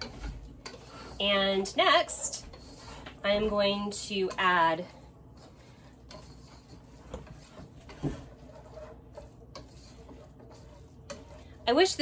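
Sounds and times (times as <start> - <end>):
whisk scraping a pan: 0.0 - 12.0.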